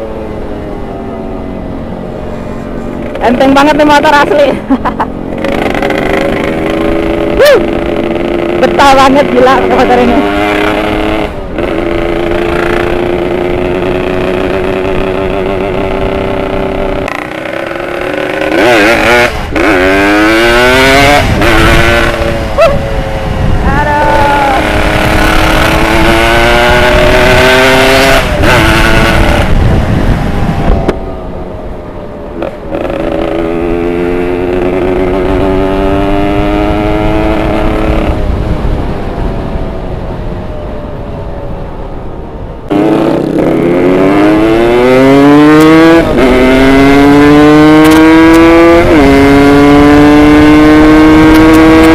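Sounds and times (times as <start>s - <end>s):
two-stroke motorcycle engine revving: 2.8s - 31.0s, 32.4s - 39.0s, 42.7s - 51.9s.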